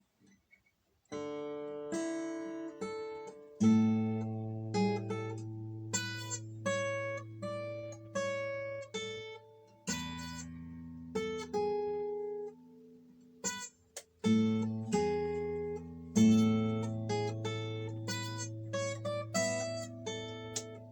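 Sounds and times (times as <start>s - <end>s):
acoustic guitar playing: 1.1s - 20.9s.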